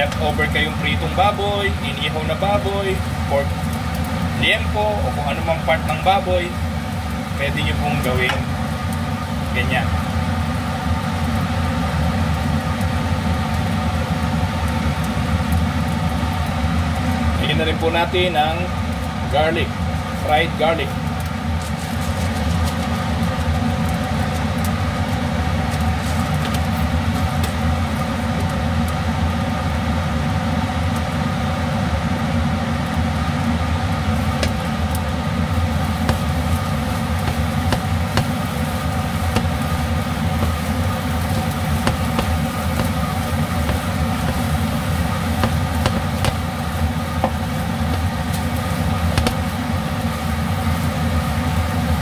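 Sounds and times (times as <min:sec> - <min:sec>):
kitchen exhaust fan humming: 0:00.0 - 0:52.0.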